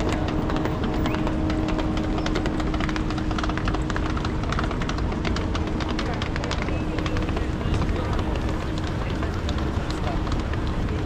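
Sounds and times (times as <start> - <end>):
footsteps of people walking: 0.0 - 11.0
road traffic rumbling: 0.0 - 11.0.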